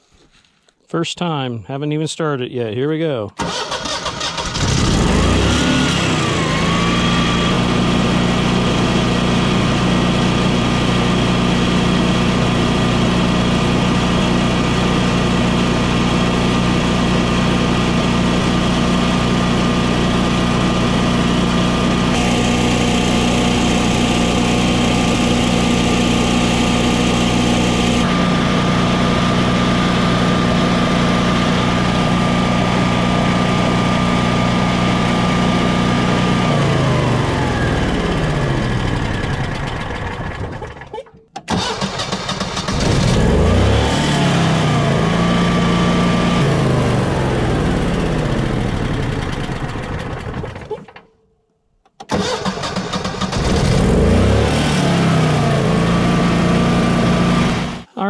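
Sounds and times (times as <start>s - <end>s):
generator engine running: 3.4s - 50.7s, 52.1s - 58.0s.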